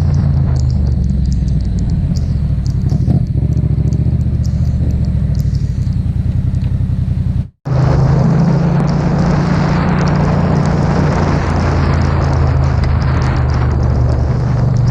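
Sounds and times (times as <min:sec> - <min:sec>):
motorcycle engine running: 0:00.0 - 0:14.9
wind and road noise: 0:00.0 - 0:14.9.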